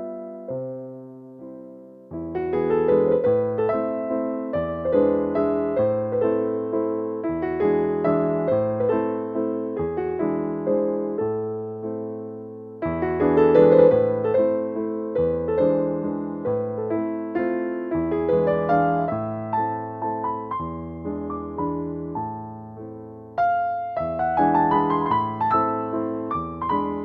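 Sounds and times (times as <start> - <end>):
gentle electric piano melody: 0.0 - 27.0.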